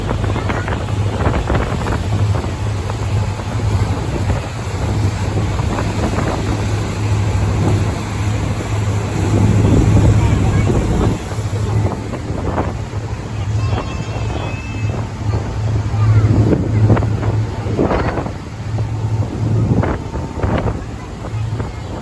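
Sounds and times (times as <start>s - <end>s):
speedboat engine humming: 0.0s - 22.0s
water rushing past hull: 0.0s - 22.0s
wind buffeting microphone: 0.0s - 22.0s.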